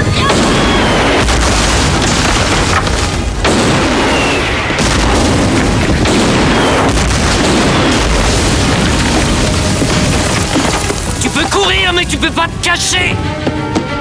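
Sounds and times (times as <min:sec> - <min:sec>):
explosions booming: 0:00.0 - 0:12.2.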